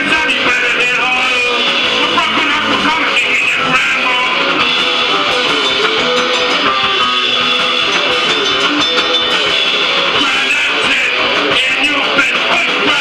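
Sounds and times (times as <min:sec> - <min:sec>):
punk rock instrumental: 0:00.0 - 0:13.0
strummed electric guitar: 0:00.0 - 0:13.0.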